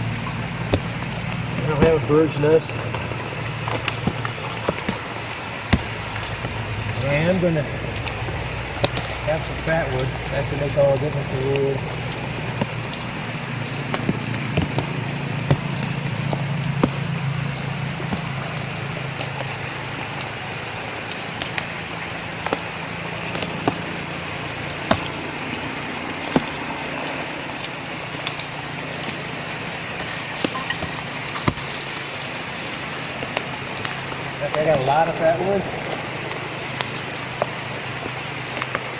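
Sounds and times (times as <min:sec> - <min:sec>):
sharp ticks and knocks: 0:00.0 - 0:34.8
steady rain falling: 0:00.0 - 0:38.9.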